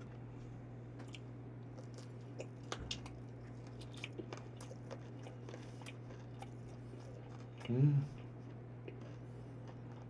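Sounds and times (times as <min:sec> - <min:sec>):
steady low hum: 0:00.0 - 0:10.0
wet chewing: 0:01.0 - 0:10.0.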